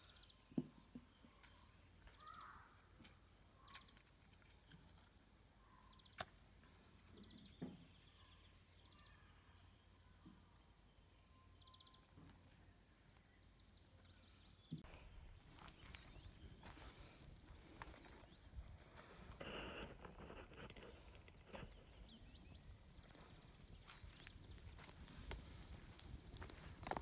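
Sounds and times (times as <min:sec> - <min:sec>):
distant bird chirps: 0:00.0 - 0:04.0, 0:05.1 - 0:27.0.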